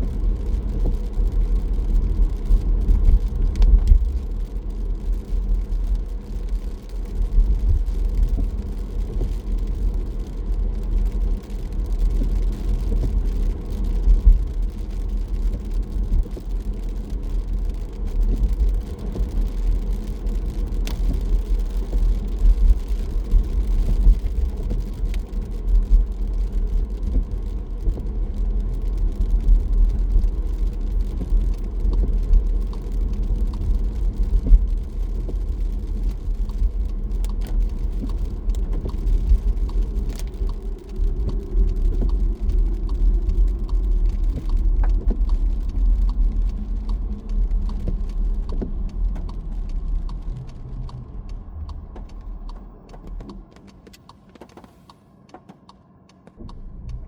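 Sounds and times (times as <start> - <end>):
car tyres and engine rumble: 0.0 - 57.0
faint ticks: 0.0 - 57.0.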